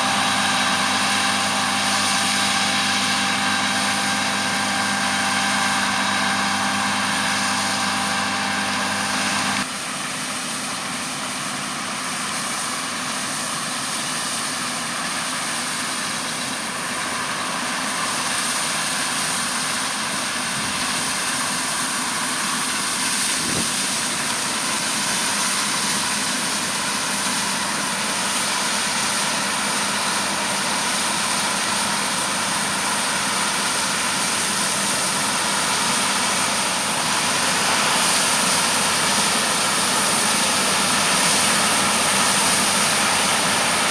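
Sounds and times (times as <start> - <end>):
farm machinery engine hum: 0.0 - 43.9.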